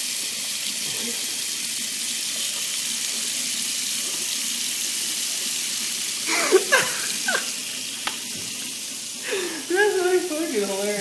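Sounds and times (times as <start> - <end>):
sink tap running: 0.0 - 11.0.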